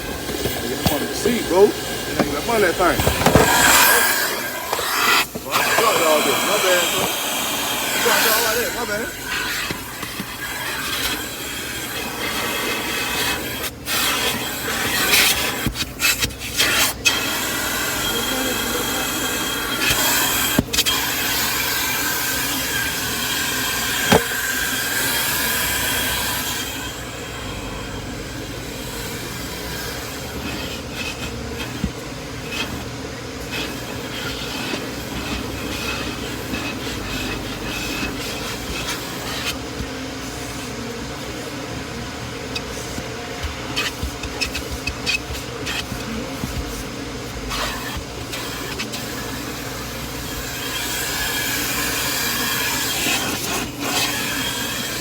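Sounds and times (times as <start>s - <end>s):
vacuum running with rushing whine: 0.0s - 55.0s.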